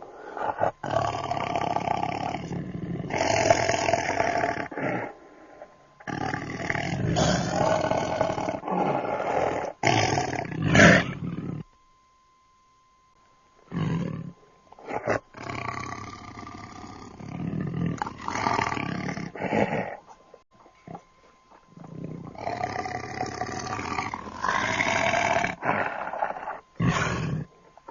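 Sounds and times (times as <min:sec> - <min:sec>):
tiger growling: 0:00.0 - 0:11.7, 0:13.7 - 0:27.9.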